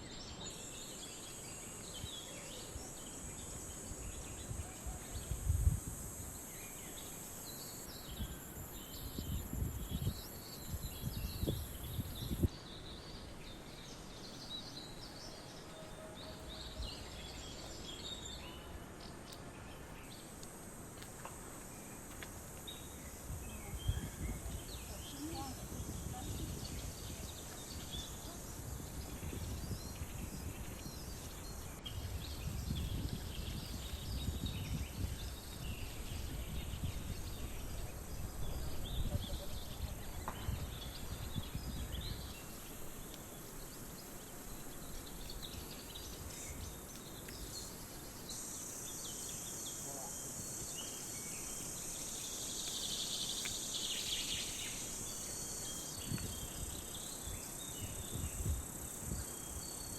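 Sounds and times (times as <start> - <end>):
birds chirping: 0.0 - 59.9
high insect drone: 0.0 - 59.9.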